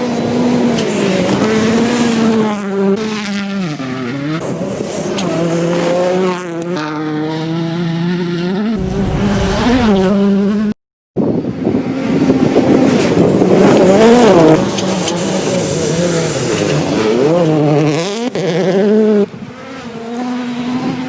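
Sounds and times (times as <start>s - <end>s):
rally car engine at high revs: 0.0s - 10.8s, 11.4s - 21.0s.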